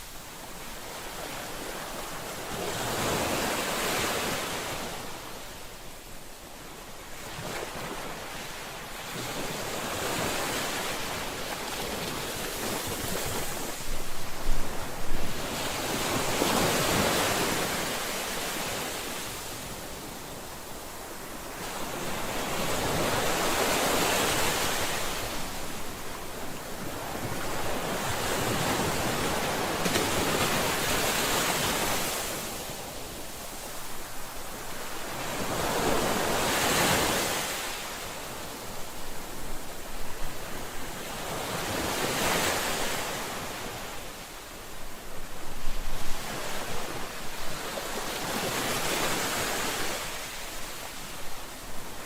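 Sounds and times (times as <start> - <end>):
ocean waves breaking on shore: 0.0 - 5.9, 6.5 - 52.0.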